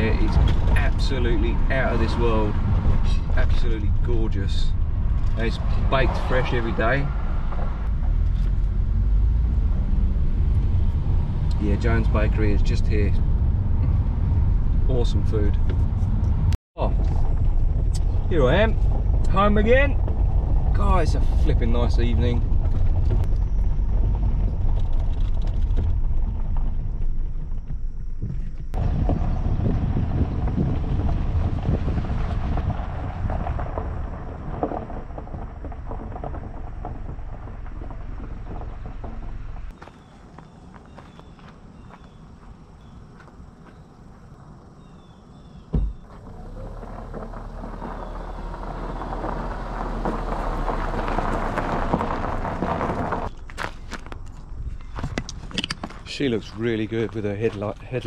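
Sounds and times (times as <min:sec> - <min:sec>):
car rumbling on gravel: 0:00.0 - 0:58.0
wind buffeting microphone: 0:00.0 - 0:58.0.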